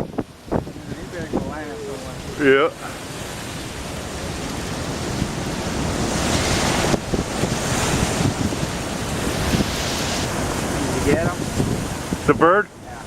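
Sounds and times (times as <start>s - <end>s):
strong wind gusting on microphone: 0.0s - 13.0s.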